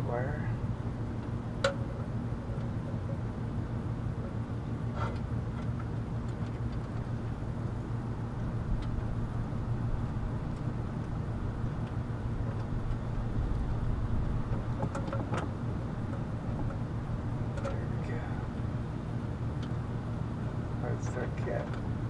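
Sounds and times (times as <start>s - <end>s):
air conditioning hum: 0.0s - 22.0s.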